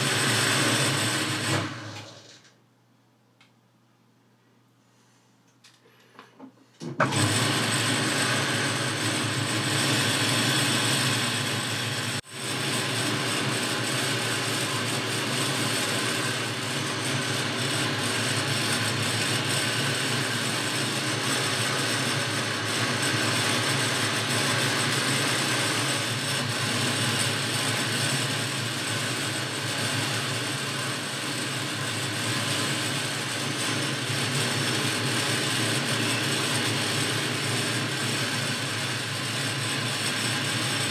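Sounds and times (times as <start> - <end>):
lathe motor humming: 0.0 - 2.3, 7.0 - 40.9.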